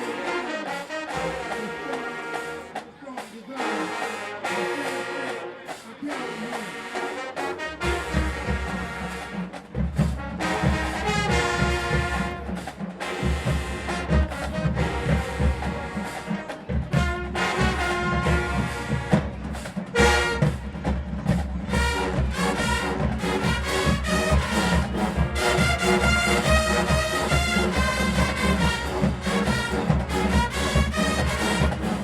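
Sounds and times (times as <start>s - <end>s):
brass section playing: 0.0s - 32.0s.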